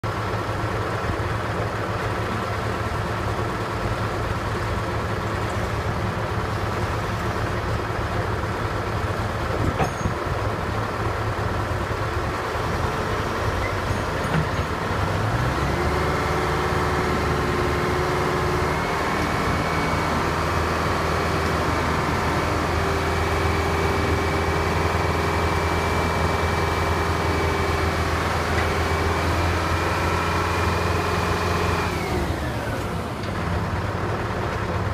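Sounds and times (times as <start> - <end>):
drill rig engine running: 0.1 - 34.9.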